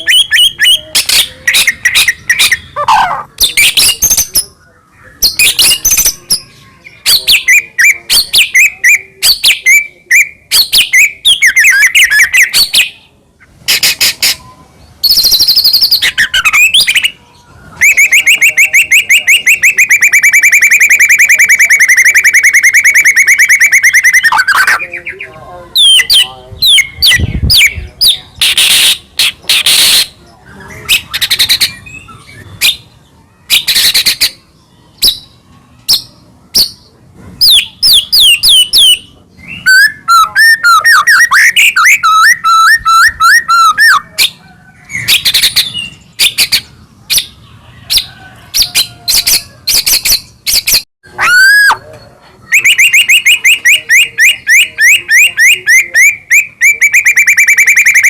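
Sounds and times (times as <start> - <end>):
songbird singing loudly: 0.0 - 13.1, 13.7 - 58.0.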